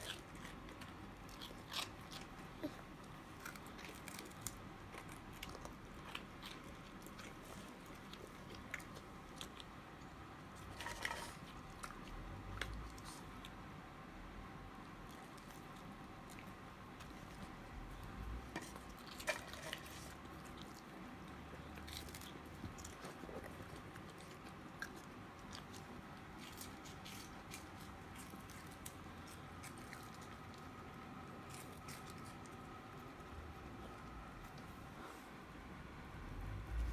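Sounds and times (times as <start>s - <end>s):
chewing crunchy snacks: 0.0s - 13.6s, 14.9s - 34.7s.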